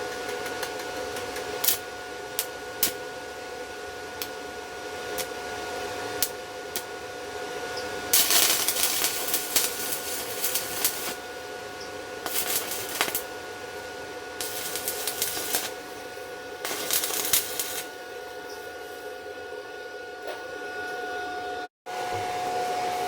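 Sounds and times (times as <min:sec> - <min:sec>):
welding arc crackling and sizzling: 0:00.0 - 0:19.8.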